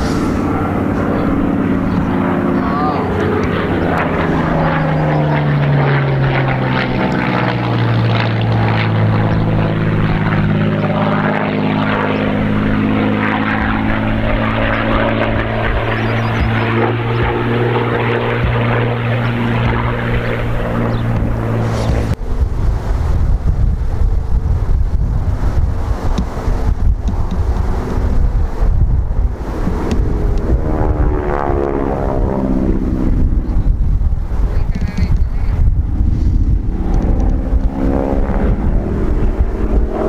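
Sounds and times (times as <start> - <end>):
aircraft piston engine: 0.0 - 40.0
wind noise: 0.0 - 40.0.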